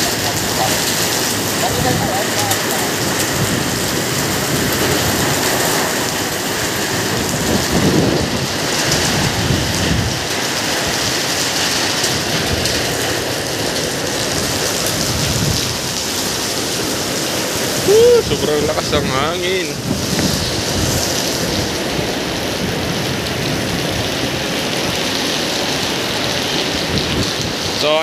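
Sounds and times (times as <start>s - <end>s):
heavy rain pouring: 0.0s - 28.0s
wind gusts on microphone: 0.0s - 28.0s.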